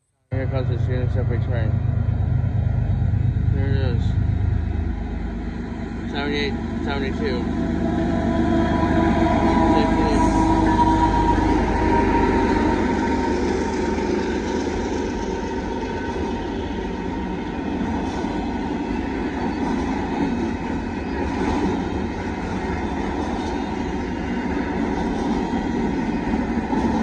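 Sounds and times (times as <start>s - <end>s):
freight train wheels rumbling: 0.3s - 27.0s.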